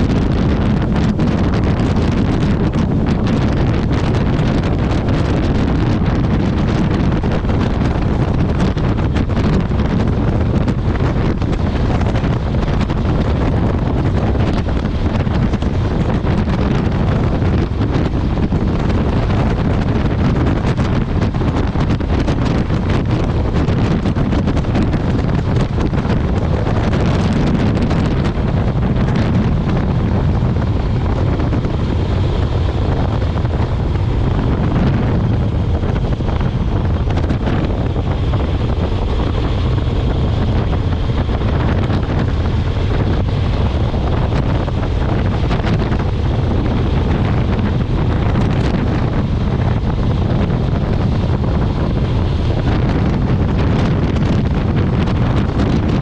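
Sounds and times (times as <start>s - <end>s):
motorcycle and road drone: 0.0s - 56.0s
wind buffeting microphone: 0.0s - 56.0s.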